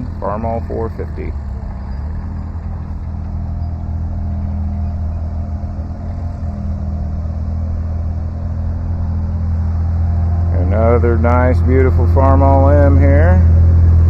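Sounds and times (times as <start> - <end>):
engine running at low speed: 0.0 - 14.0.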